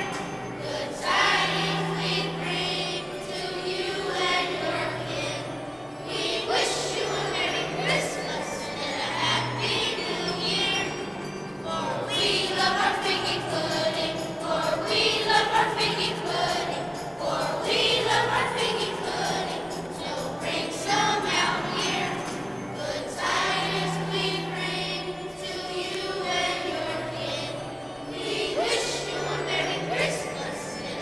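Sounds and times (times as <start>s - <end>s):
children's choir singing: 0.0s - 31.0s.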